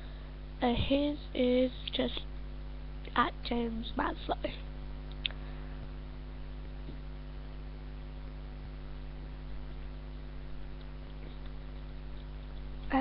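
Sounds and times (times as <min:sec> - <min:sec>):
constant hiss: 0:00.0 - 0:13.0
electrical mains hum: 0:00.0 - 0:13.0.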